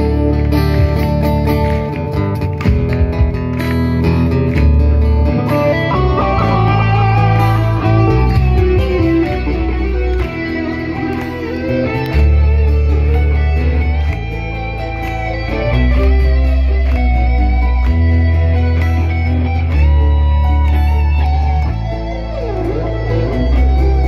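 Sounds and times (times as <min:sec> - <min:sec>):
acoustic guitar: 0:00.0 - 0:24.0
bass line: 0:00.0 - 0:24.0
electric guitar lead: 0:00.0 - 0:24.0.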